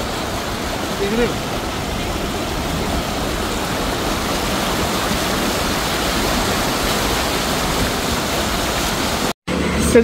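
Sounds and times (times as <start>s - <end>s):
car splashing through floodwater: 0.0s - 10.0s.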